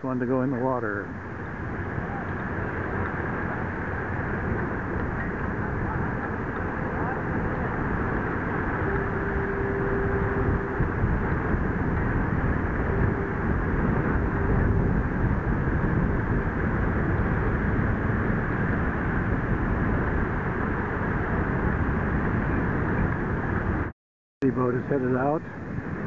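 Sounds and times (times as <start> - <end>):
small waves washing: 0.0 - 23.8
wind buffeting microphone: 0.0 - 26.0.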